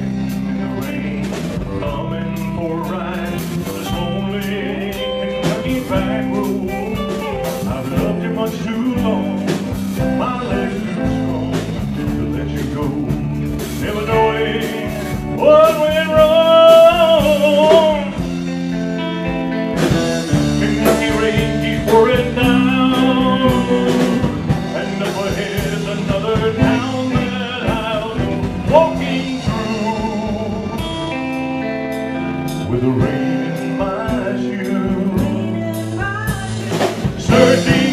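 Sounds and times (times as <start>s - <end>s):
live country-rock band playing: 0.0s - 37.9s.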